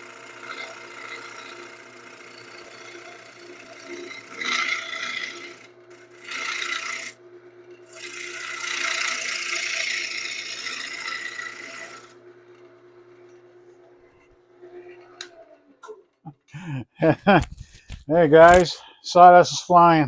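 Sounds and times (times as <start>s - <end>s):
tool cutting spinning wood: 0.0s - 16.2s
wood lathe motor hum: 0.0s - 16.3s.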